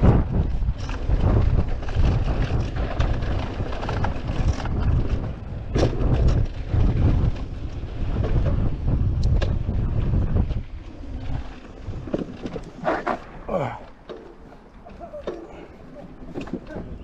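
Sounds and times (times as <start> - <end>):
bike rumbling and rattling: 0.0 - 17.0
wind buffeting microphone: 0.0 - 17.0.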